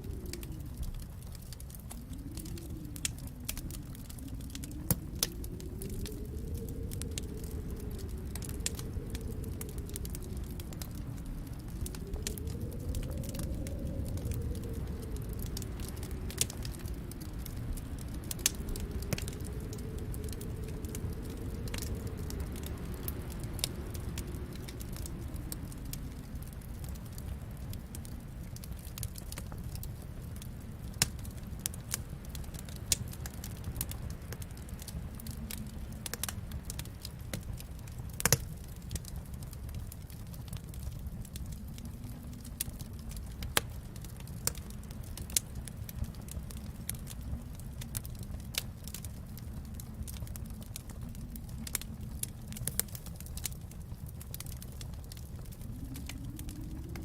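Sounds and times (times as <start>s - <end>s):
low steady rumble: 0.0s - 57.0s
wood fire crackling: 0.0s - 57.0s.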